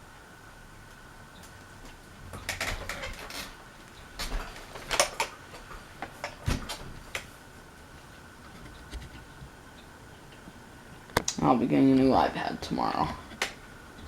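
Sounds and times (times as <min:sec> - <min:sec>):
ceiling fan hum: 0:00.0 - 0:14.0.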